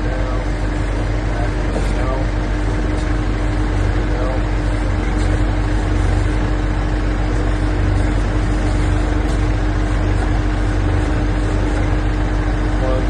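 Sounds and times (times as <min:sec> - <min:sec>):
pile driver engine running: 0:00.0 - 0:13.0.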